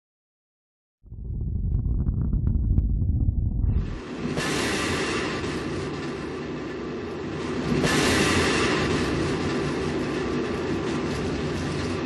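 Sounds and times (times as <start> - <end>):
rushing rumbling noise: 1.0 - 12.0.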